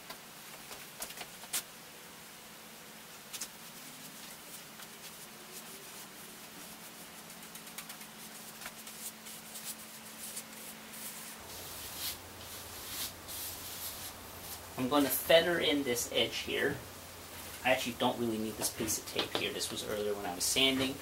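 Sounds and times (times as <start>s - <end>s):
steady low hum: 0.0s - 21.0s
gloved hands rubbing: 3.3s - 20.7s.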